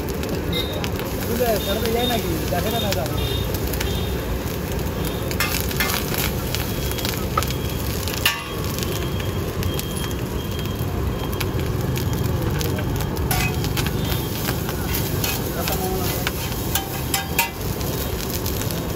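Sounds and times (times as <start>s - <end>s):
rice sizzling in a wok: 0.0s - 18.9s.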